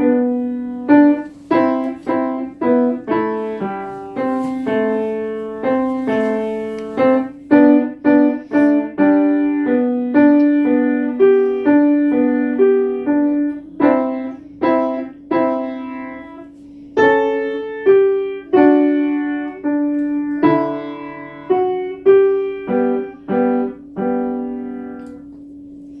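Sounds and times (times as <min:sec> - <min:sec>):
piano melody over chords: 0:00.0 - 0:25.8.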